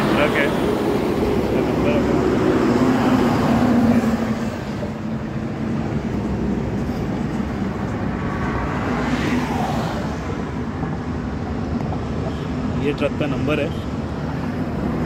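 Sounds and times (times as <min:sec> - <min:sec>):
engine running close by: 0:00.0 - 0:15.0
highway traffic: 0:00.0 - 0:15.0.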